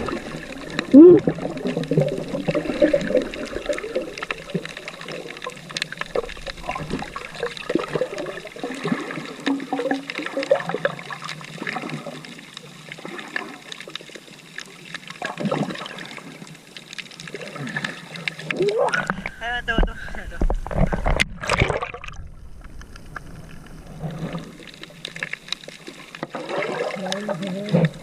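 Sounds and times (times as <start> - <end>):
shallow sea water splashing: 0.0 - 28.0.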